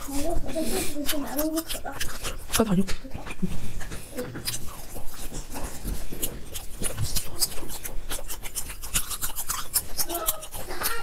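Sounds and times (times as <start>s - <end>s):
wet chewing clicks and smacks: 0.0s - 11.0s.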